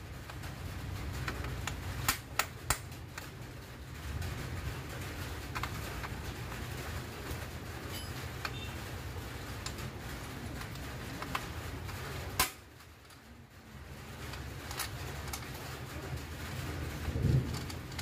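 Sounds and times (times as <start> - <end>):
light clicks and taps of parts: 0.2 - 3.5, 5.0 - 8.8, 9.5 - 18.0.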